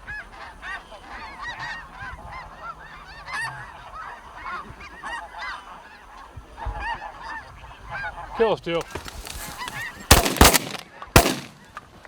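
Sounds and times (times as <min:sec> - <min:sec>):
geese honking: 0:00.0 - 0:11.8.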